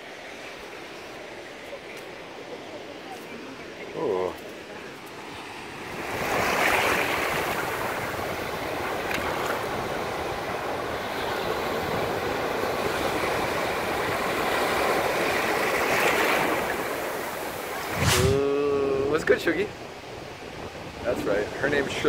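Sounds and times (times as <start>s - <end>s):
ocean surf breaking on shore: 0.0s - 22.0s.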